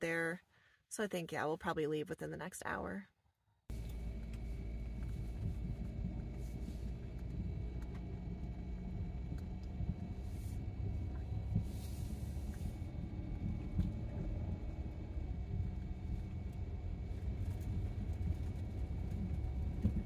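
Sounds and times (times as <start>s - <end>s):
vehicle rumble from inside cabin: 3.7s - 20.0s.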